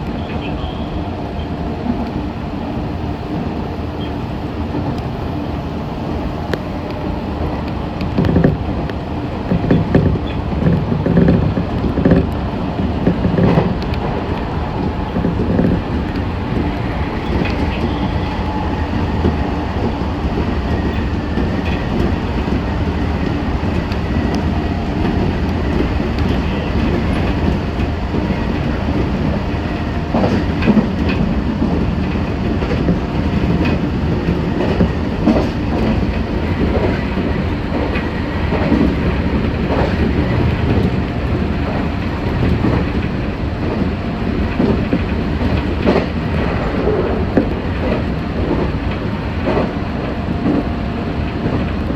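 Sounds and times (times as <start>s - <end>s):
train running rumble: 0.0s - 51.9s
wheels clacking over rail joints: 6.1s - 50.7s.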